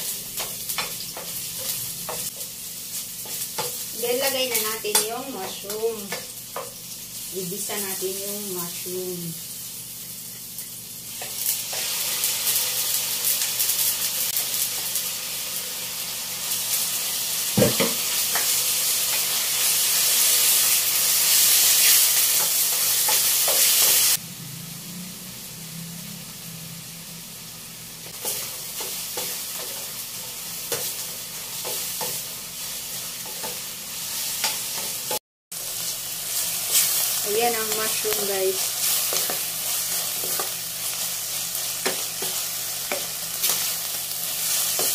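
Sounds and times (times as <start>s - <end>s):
mushrooms sizzling in oil: 0.0s - 44.9s.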